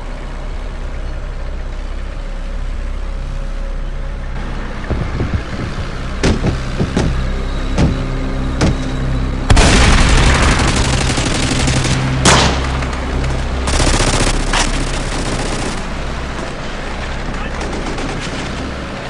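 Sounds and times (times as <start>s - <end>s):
low vehicle engine rumble: 0.0s - 19.0s.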